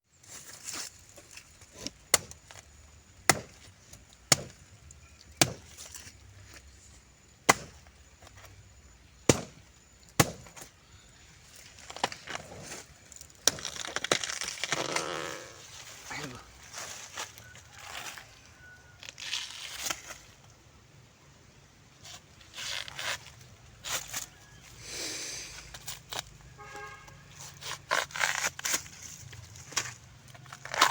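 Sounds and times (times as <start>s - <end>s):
rustling crunchy noise: 0.1s - 20.6s, 21.9s - 30.9s.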